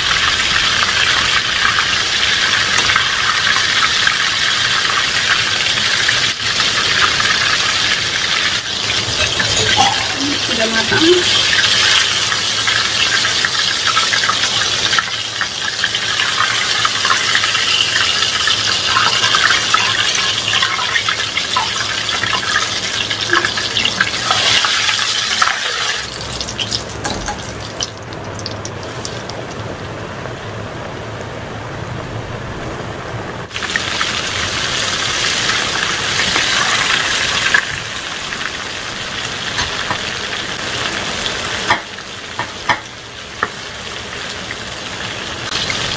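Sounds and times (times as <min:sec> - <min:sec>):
chicken deep-frying in oil: 0:00.0 - 0:31.2, 0:33.4 - 0:45.9.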